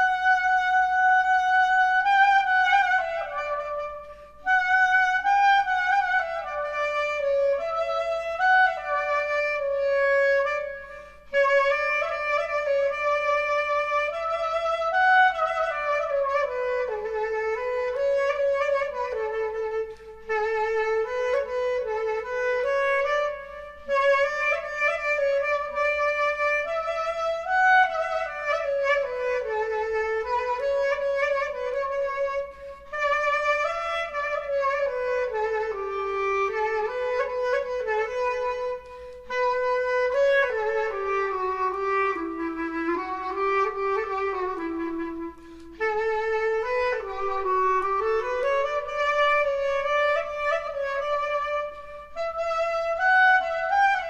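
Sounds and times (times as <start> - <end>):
slow wind instrument melody: 0.0 - 54.0.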